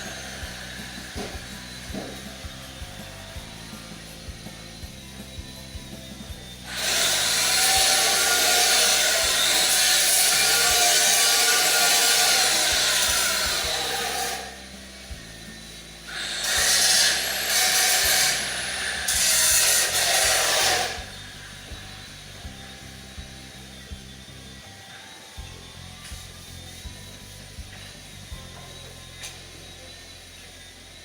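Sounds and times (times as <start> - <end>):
power tool whining on metal: 0.0 - 31.0.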